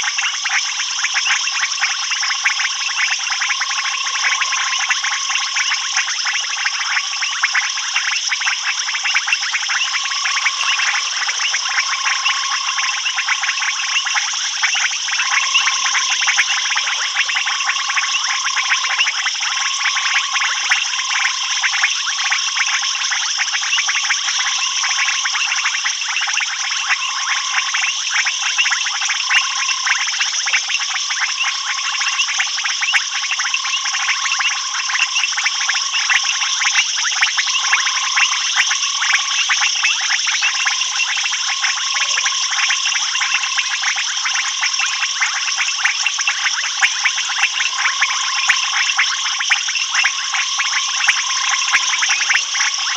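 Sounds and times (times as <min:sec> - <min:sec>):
insects high shrill hum: 0:00.1 - 0:52.9.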